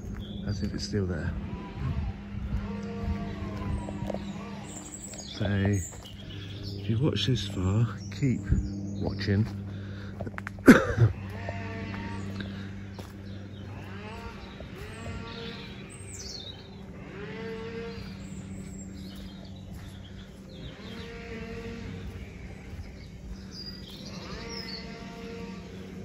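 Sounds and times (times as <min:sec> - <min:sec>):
drawn-out animal calls: 0:00.0 - 0:26.0
steady low hum: 0:00.0 - 0:26.0.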